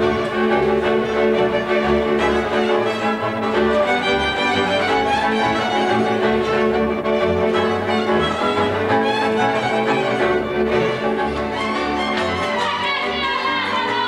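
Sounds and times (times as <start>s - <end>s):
bowed string accompaniment: 0.0s - 14.0s
fiddle melody: 0.0s - 14.0s.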